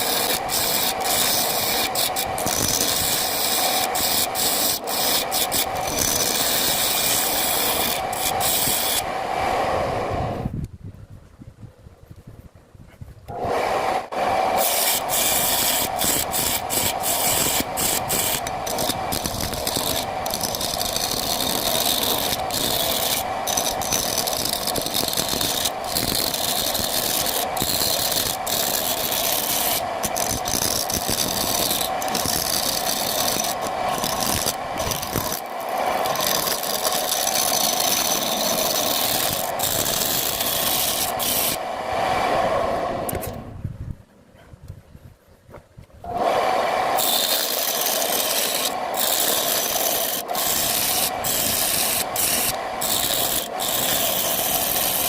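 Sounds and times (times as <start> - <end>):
turning tool scraping wood: 0.0 - 9.1, 14.5 - 41.6, 47.0 - 55.0
wood lathe humming: 0.0 - 10.0, 13.4 - 42.5, 46.2 - 55.0.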